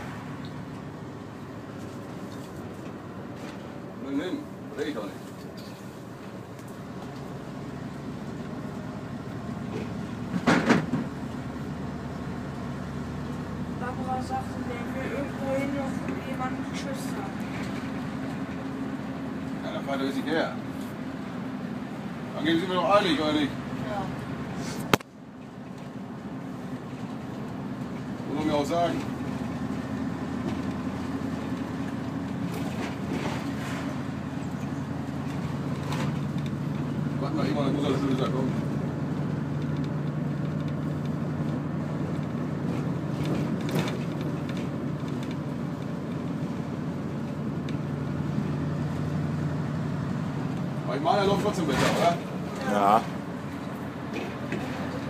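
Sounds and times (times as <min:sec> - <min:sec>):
coach diesel engine running: 0:00.0 - 0:55.0.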